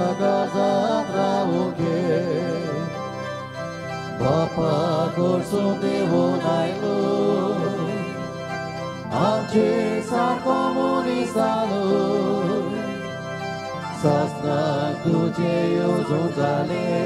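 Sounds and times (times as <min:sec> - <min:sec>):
organ chords: 0:00.0 - 0:17.0
person singing a hymn: 0:00.0 - 0:17.0.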